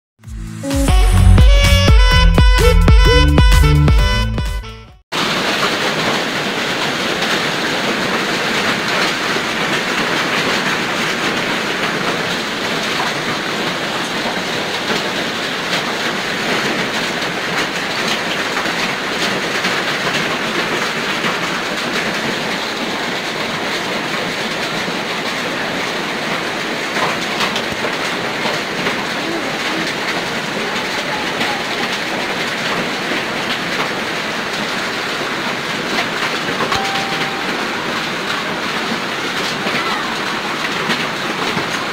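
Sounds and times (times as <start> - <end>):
heavy rain: 5.1 - 41.9.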